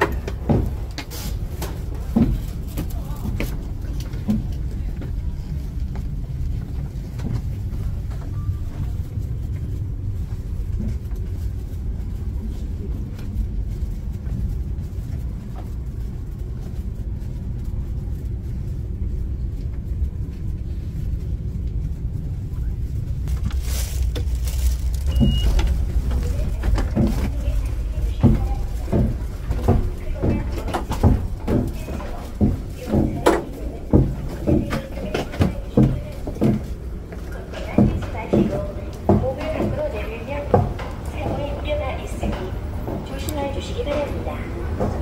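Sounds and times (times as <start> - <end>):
train carriage rumble: 0.0 - 45.0.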